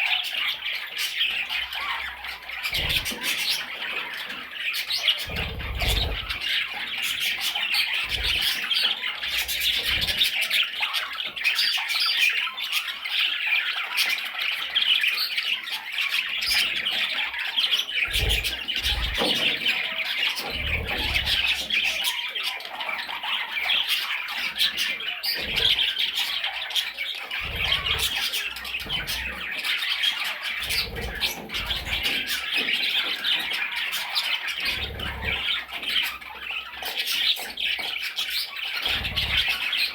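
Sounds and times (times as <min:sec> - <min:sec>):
budgerigar chattering: 0:00.0 - 0:15.2, 0:15.9 - 0:39.9.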